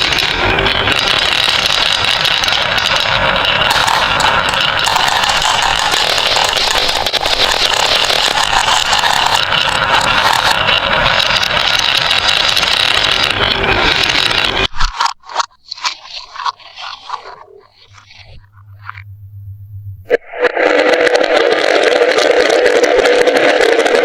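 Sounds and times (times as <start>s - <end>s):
marbles rattling down a marble run: 0.0s - 18.9s, 20.7s - 24.0s.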